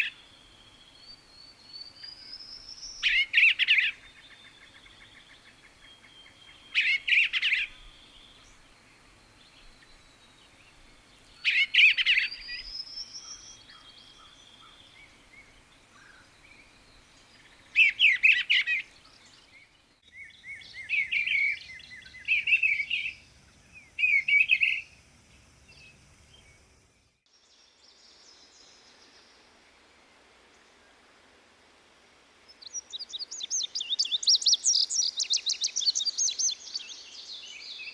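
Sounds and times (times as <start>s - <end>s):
songbirds singing: 0.0s - 29.7s, 32.4s - 37.9s.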